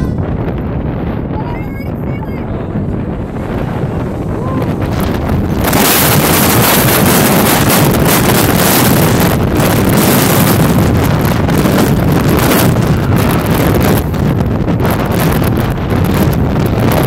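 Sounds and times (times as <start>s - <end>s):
wind buffeting microphone: 0.0s - 17.0s
jet engines at takeoff thrust: 0.5s - 17.0s.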